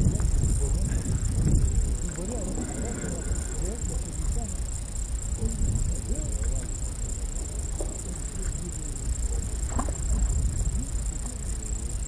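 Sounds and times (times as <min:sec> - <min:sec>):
faint ticks: 0:00.0 - 0:12.0
high-pitched hiss: 0:00.0 - 0:12.0
wind rumbling on microphone: 0:00.0 - 0:12.0.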